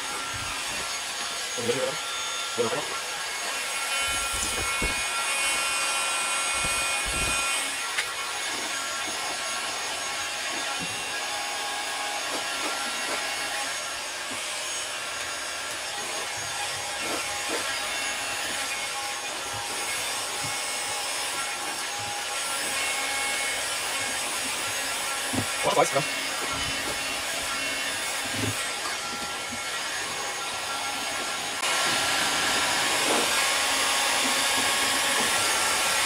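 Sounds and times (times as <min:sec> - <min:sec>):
hot-air blower running: 0:00.0 - 0:36.0.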